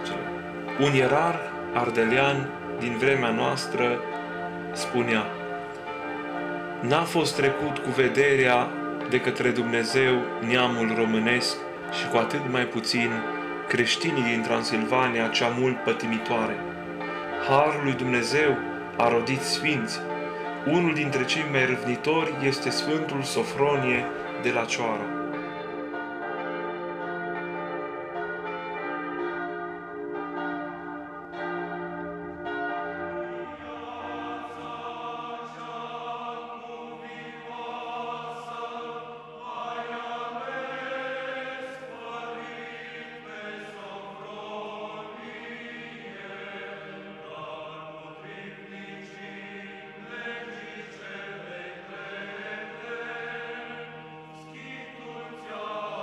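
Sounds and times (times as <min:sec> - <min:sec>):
choir chanting: 0:00.0 - 0:56.0
church bell ringing: 0:00.0 - 0:56.0
steady held drone: 0:00.0 - 0:56.0.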